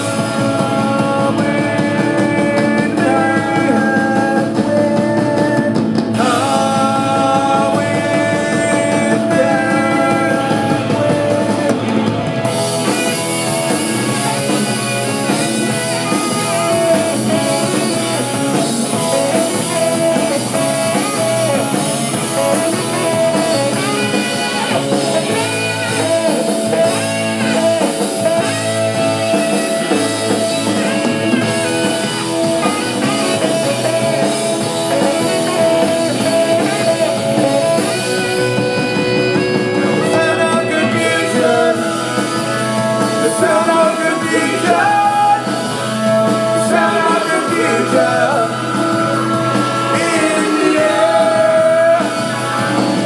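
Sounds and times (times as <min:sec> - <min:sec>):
drums: 0:00.0 - 0:53.0
electric guitar: 0:00.0 - 0:53.0.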